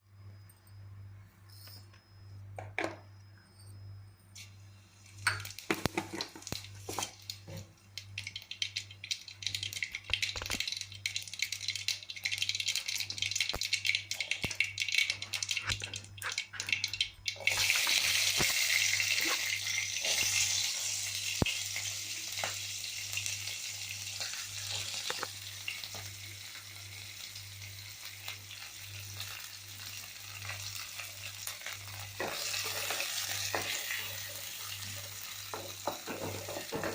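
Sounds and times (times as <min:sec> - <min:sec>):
hot oil crackling and popping: 0:04.4 - 0:36.9
loud steady sizzle: 0:04.4 - 0:36.9.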